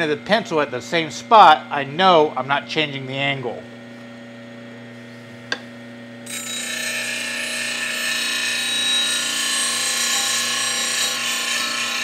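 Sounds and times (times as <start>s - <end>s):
bench grinder humming: 0.0s - 12.0s.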